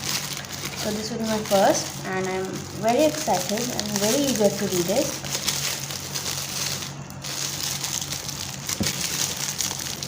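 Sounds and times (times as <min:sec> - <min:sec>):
wrapping crinkling and rustling: 0:00.0 - 0:10.0.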